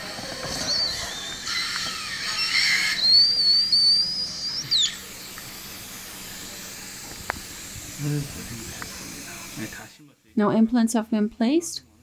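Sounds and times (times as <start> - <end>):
surgical suction hissing and whistling: 0.0 - 9.8.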